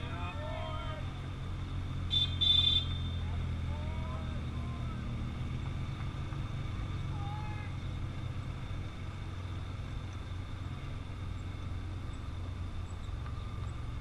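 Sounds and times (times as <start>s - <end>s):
utility vehicle engines humming: 0.0s - 14.0s.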